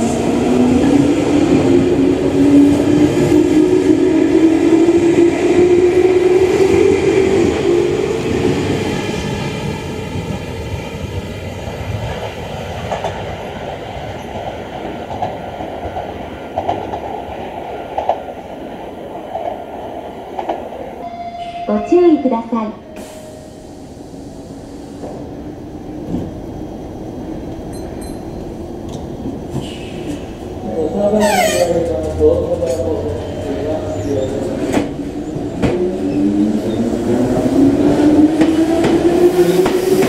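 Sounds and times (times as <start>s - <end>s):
train running over rails: 0.0s - 40.0s.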